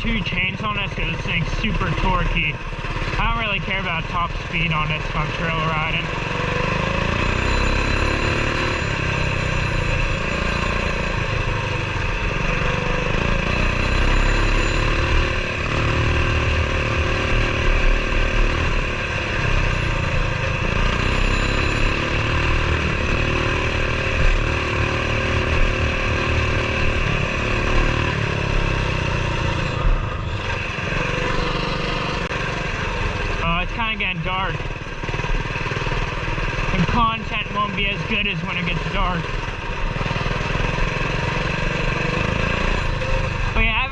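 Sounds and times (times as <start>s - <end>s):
mini bike engine revving: 0.0s - 43.9s.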